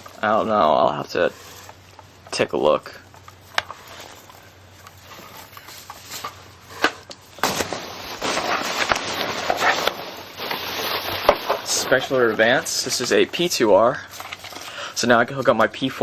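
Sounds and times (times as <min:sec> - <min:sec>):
packing material crackling and rustling: 0:00.0 - 0:16.0.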